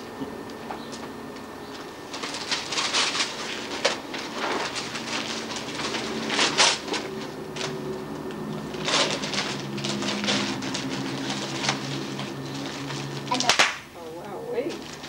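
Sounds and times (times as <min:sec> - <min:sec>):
gift wrapping crinkling: 0:01.7 - 0:13.8, 0:14.7 - 0:15.0.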